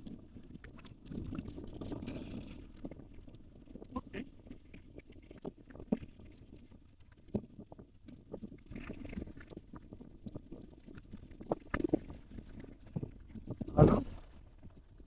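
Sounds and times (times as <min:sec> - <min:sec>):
small clicks and splashes: 0:00.0 - 0:15.0
wind rumble on microphone: 0:00.0 - 0:15.0.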